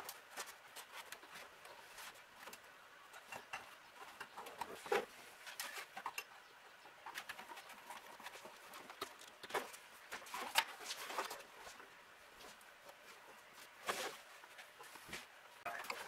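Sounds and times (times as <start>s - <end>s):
faint rustling of wiring: 0.0s - 16.0s.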